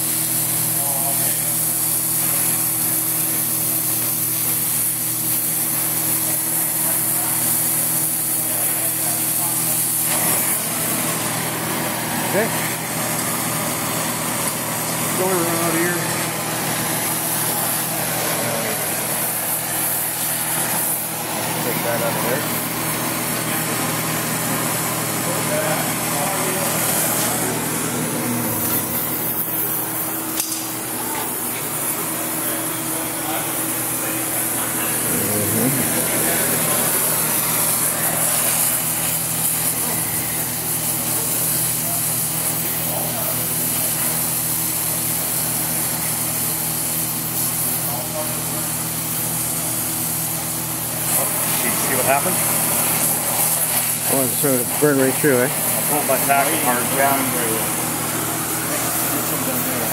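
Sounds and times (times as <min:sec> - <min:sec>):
welding torch flame hissing: 0:00.0 - 0:59.9.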